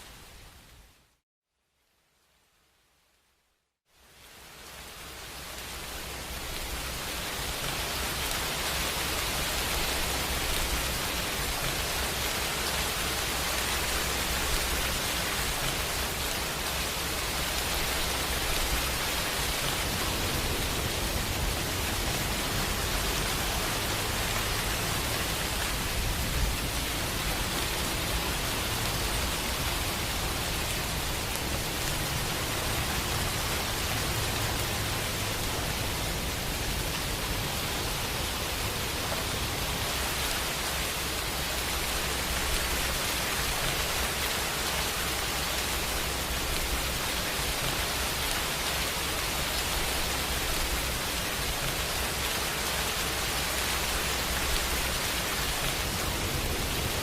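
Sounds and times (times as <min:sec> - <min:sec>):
dense rainfall: 0:00.0 - 0:57.0.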